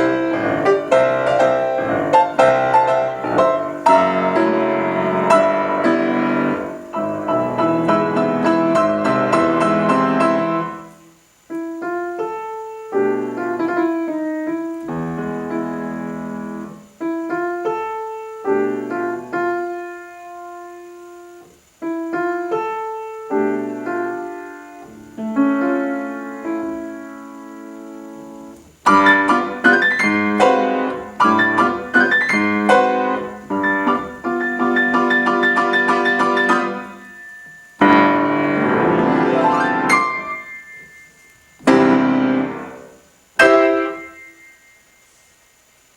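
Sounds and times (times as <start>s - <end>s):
solo piano: 0.0s - 45.1s.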